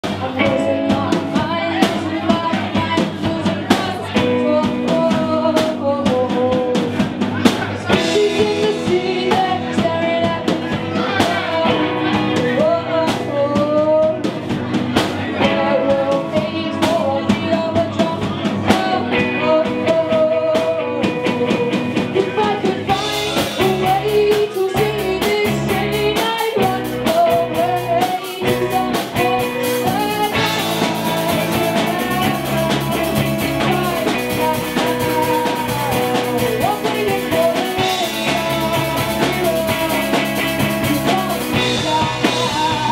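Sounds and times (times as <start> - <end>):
person singing: 0.0 - 42.9
rock band playing live: 0.0 - 42.9.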